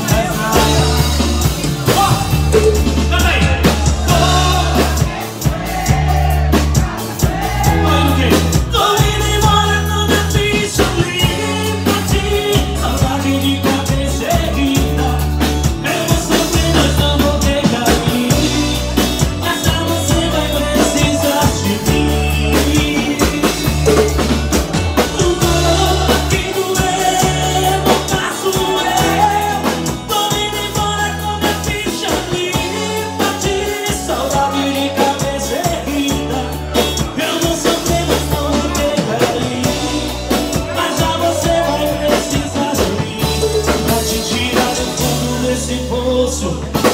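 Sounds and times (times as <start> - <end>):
acoustic-electric guitar: 0.0 - 46.9
drum kit rock beat: 0.0 - 46.9
low bass line: 0.0 - 46.9.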